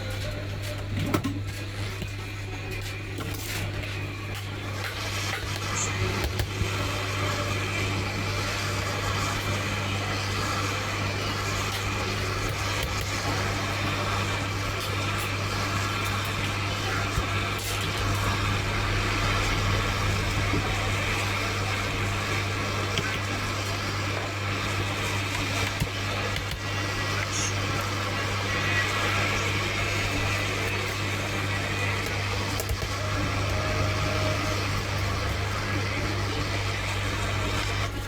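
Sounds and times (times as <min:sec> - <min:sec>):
hot air station hissing: 0:05.0 - 0:38.0.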